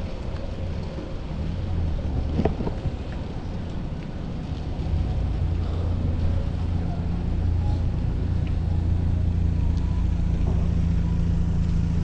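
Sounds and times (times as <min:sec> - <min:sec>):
city traffic: 0:00.0 - 0:12.0
wind rumble: 0:00.0 - 0:12.0.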